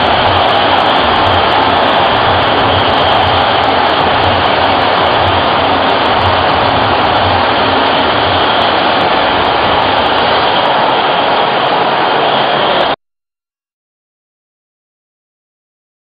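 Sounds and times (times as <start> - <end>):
stadium crowd roar: 0.0 - 13.0.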